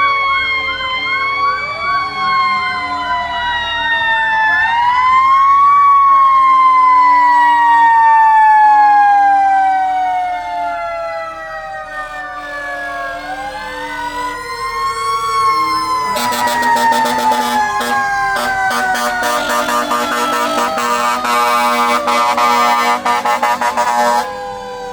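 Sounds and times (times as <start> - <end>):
fire truck siren wailing: 0.0 - 24.9.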